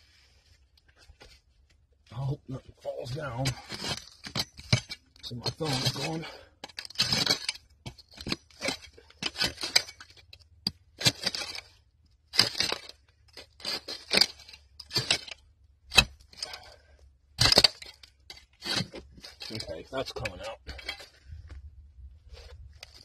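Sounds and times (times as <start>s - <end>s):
metal claw scraping dirt: 2.2s - 21.6s, 22.2s - 23.0s.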